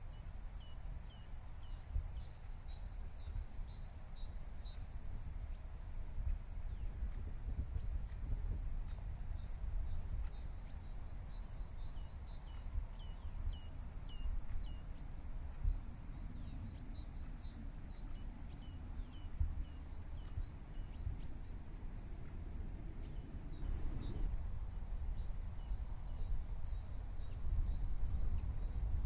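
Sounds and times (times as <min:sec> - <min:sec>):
small bird chirping: 0:00.1 - 0:22.4, 0:23.0 - 0:29.0
steady low rumble: 0:05.5 - 0:29.0.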